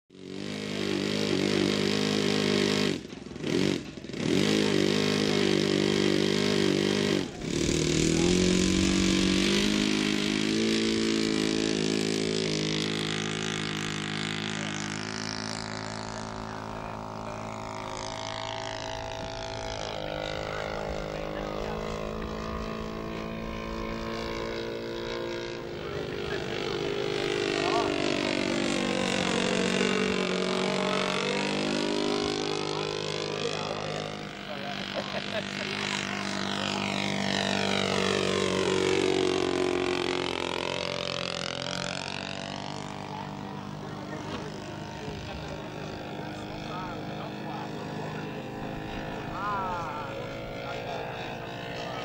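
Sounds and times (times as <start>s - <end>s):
model plane engine: 0.1s - 52.0s.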